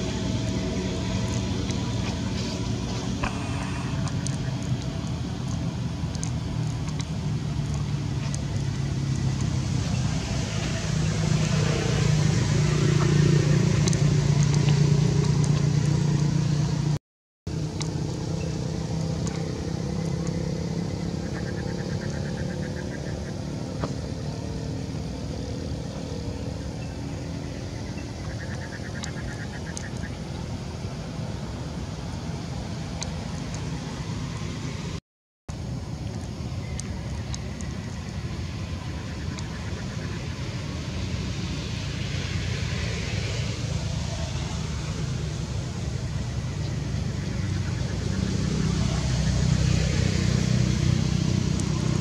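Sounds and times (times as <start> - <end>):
vehicle engine running: 0.0 - 35.0, 35.6 - 52.0.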